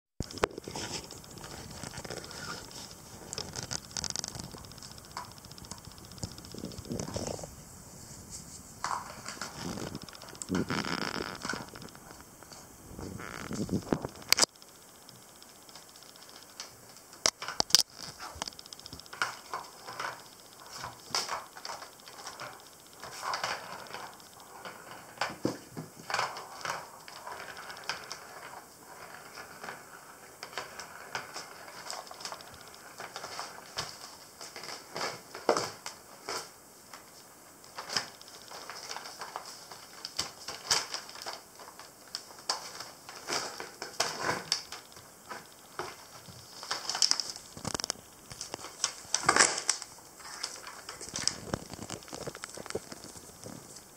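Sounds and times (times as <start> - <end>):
paws and toys on wooden floor: 0.4 - 7.6, 17.4 - 53.9.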